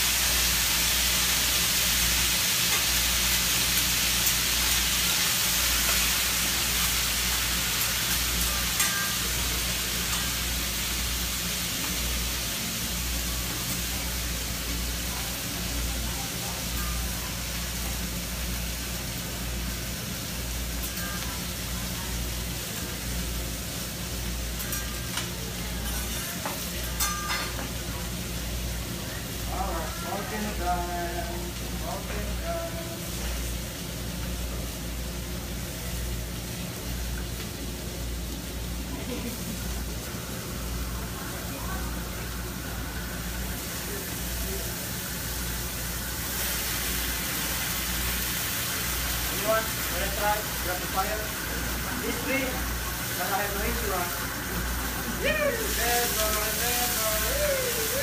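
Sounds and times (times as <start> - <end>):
food sizzling on a griddle: 0.0 - 58.0.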